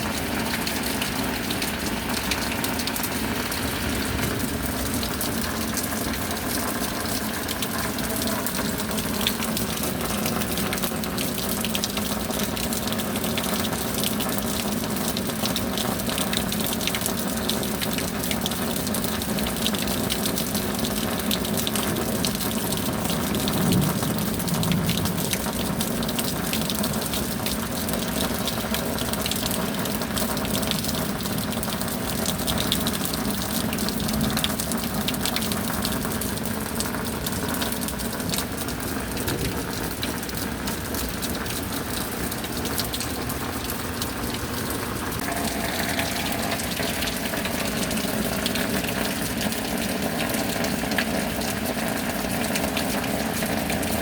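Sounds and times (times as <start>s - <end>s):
heavy rain patter: 0.0s - 54.0s
running water: 0.0s - 54.0s.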